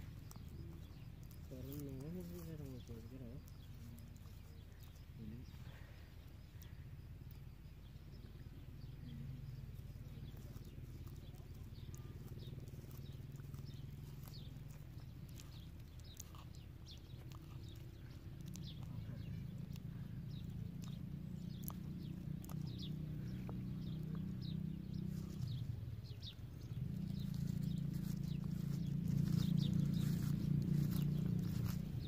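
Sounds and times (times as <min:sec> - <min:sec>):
low steady hum: 0:00.0 - 0:32.0
tortoise chewing leaves: 0:00.0 - 0:32.0.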